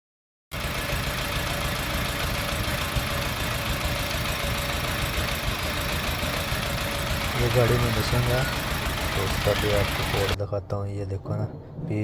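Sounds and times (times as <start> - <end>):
car engine idling unevenly: 0.5 - 10.5.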